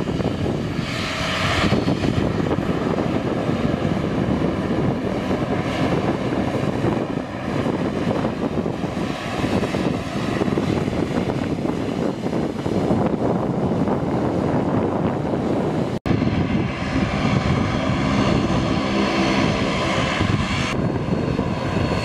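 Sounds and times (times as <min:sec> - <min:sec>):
turboprop aircraft taxiing: 0:00.0 - 0:22.0.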